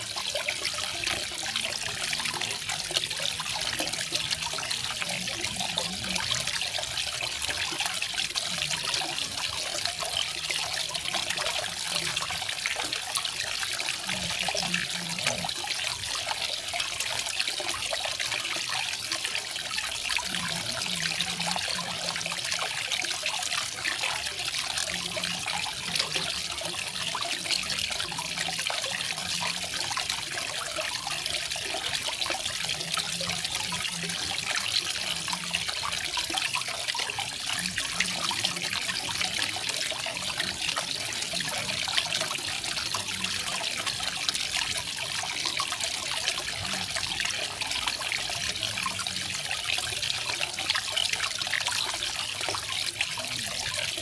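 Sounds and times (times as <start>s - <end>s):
water splashing into a pool: 0.0s - 54.0s.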